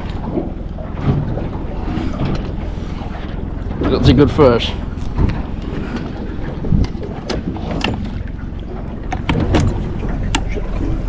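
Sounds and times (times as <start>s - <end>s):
steady low rumble: 0.0s - 11.0s
wind buffeting microphone: 0.0s - 11.0s.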